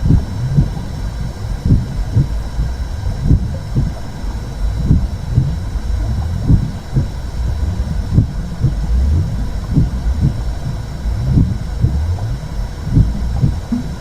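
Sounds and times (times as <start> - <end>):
heartbeat-like double thump: 0.0 - 14.0
low muffled rumbling whoosh: 0.0 - 14.0.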